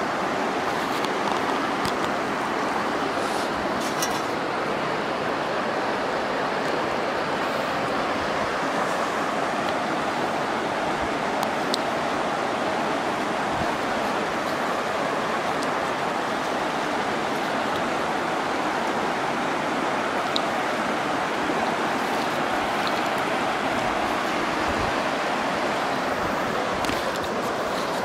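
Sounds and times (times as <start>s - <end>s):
river water rushing over rapids: 0.0s - 28.0s.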